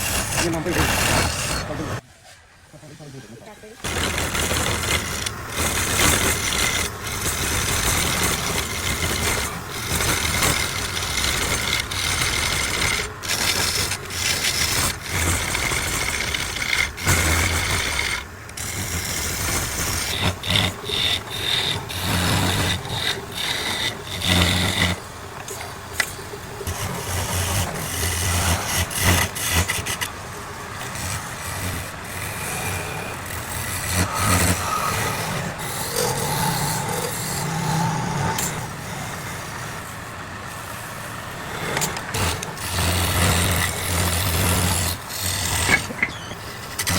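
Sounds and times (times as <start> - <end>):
lathe motor hum: 0.0 - 2.0, 3.4 - 46.9
tool scraping spinning wood: 0.0 - 2.0, 2.8 - 46.9.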